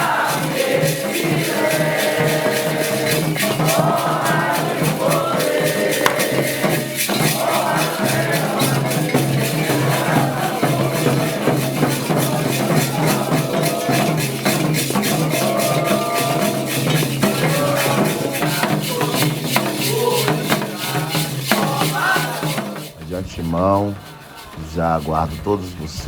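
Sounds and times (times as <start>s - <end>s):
drums: 0.0s - 26.0s
shaker rhythm: 0.0s - 26.0s.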